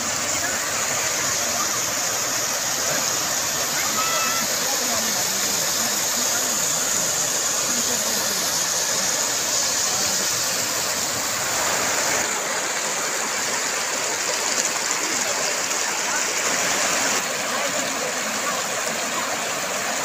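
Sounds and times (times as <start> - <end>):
river rapids rushing over stones: 0.0 - 20.0.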